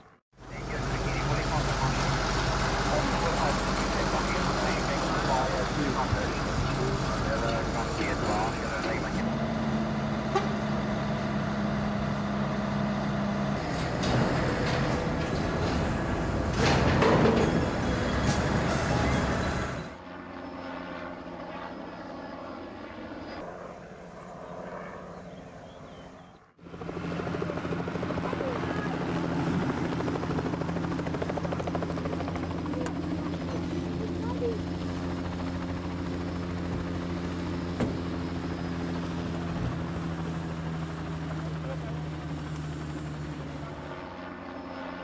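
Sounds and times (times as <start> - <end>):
engine drone: 0.0 - 22.4, 23.0 - 45.0.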